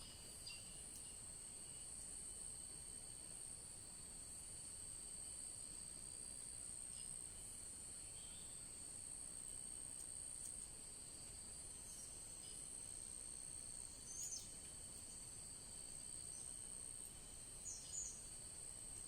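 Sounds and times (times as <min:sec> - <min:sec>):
faint insect chirps: 0:00.0 - 0:19.0
insects droning: 0:00.0 - 0:19.0.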